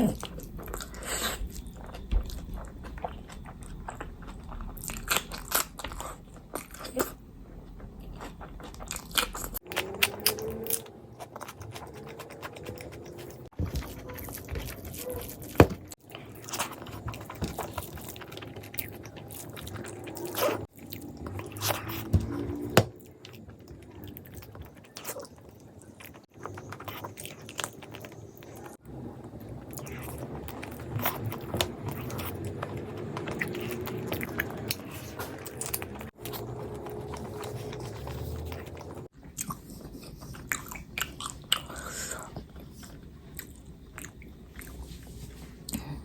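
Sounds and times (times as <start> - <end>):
chewing and biting: 0.0 - 28.8, 29.4 - 45.9.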